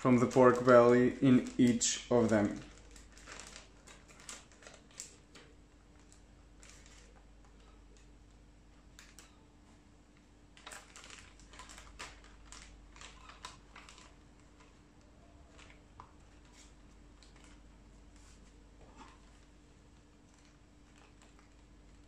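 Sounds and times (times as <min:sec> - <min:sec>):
plastic bags crinkling: 0:00.0 - 0:08.1, 0:08.9 - 0:09.4, 0:10.5 - 0:22.0.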